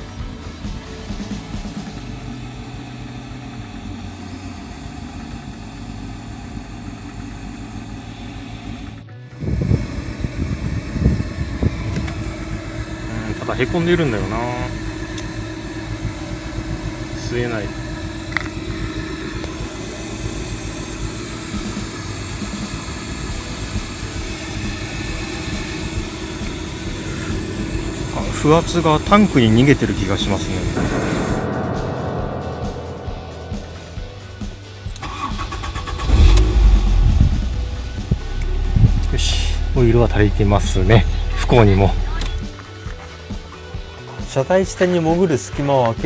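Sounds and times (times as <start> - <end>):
vacuum cleaner running: 0.0 - 31.4, 35.0 - 42.6.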